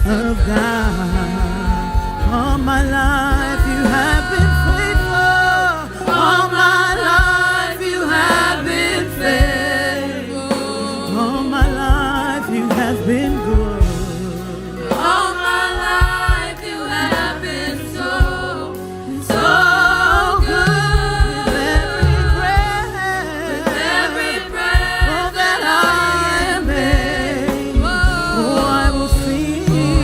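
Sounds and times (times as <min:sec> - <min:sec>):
band playing slow gospel song: 0:00.0 - 0:30.0
voices singing: 0:00.0 - 0:30.0.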